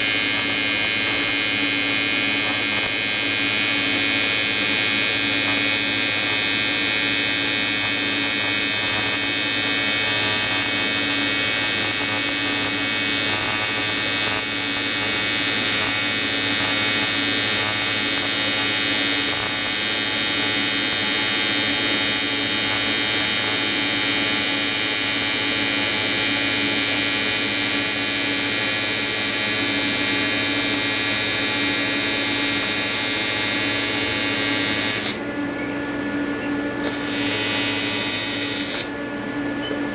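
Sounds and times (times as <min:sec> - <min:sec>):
welder buzzing: 0:00.0 - 0:35.3, 0:36.8 - 0:39.0.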